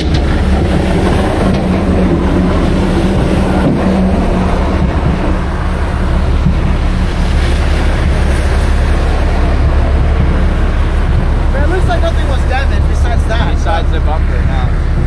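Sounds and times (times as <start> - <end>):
steady hum: 0.0 - 15.0
wind buffeting microphone: 0.0 - 15.0.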